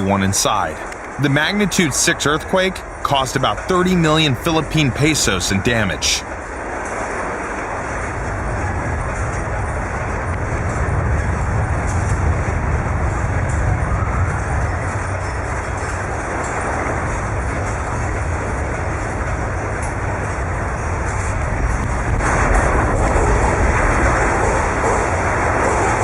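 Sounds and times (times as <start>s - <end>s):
earthquake deep rumbling: 0.0s - 26.0s.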